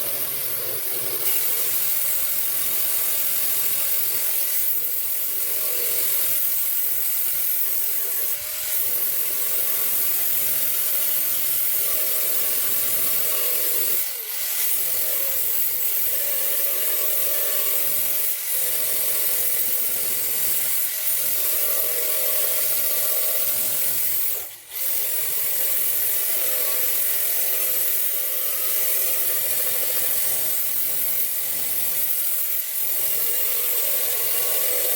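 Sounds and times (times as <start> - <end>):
power sander on metal: 0.0 - 34.9.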